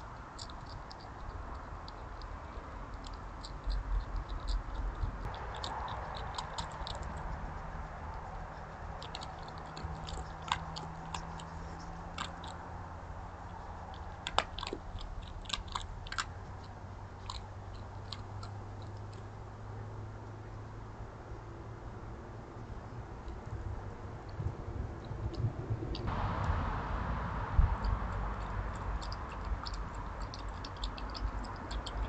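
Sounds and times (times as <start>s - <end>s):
animal chewing and crunching food: 0.0s - 20.5s, 22.8s - 32.0s.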